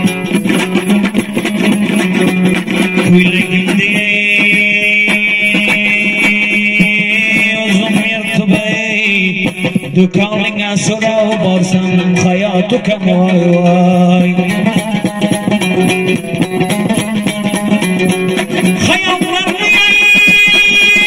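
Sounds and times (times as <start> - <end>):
lute strummed fast: 0.0 - 21.0.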